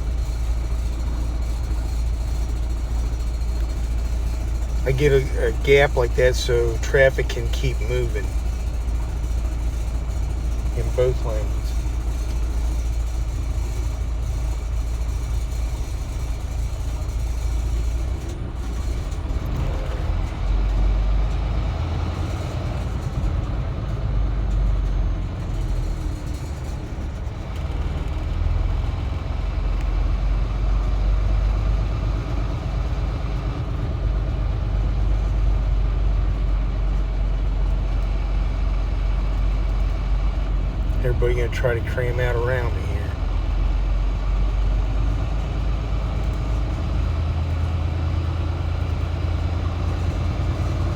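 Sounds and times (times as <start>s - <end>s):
diesel truck engine rumble: 0.0s - 50.9s
road noise inside cab: 0.0s - 50.9s.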